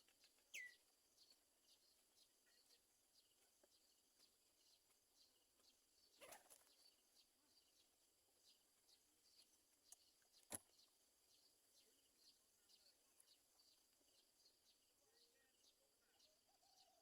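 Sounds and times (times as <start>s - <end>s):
faint high bird chirps: 0.0s - 17.0s.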